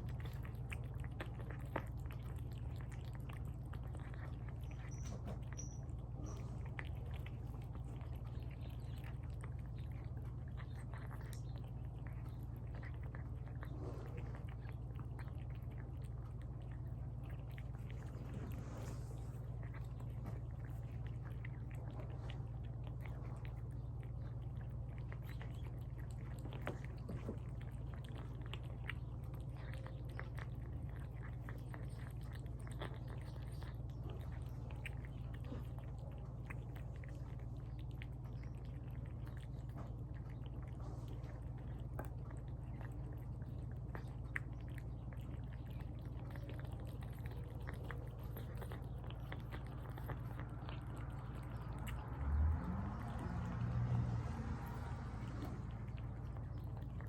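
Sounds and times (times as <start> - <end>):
cats chewing wet food: 0.0 - 57.0
steady low hum: 0.0 - 57.0.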